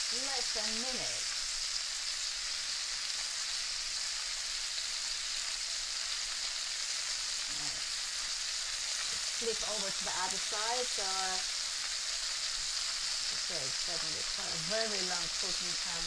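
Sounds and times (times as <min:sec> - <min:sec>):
prawns sizzling in hot oil: 0:00.0 - 0:16.0.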